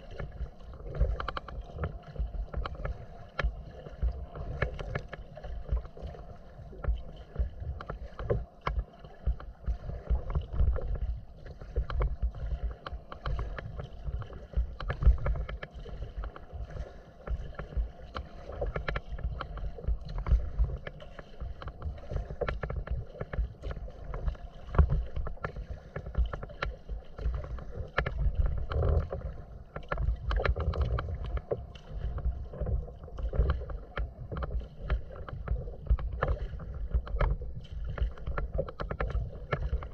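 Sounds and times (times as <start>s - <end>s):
steady low rumble: 0.0s - 39.9s
waves slapping against kayak hull: 0.0s - 39.9s.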